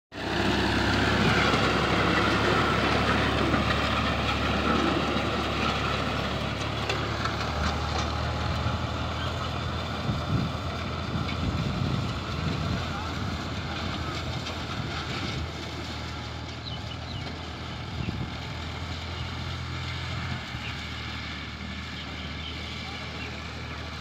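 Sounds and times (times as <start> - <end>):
tractor diesel engine under load: 0.1 - 24.0.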